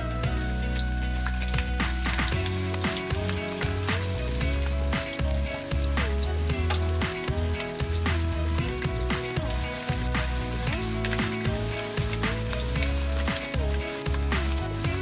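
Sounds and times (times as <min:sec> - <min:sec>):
background music with sustained notes: 0:00.0 - 0:15.0
onion sizzling in hot oil: 0:00.1 - 0:15.0.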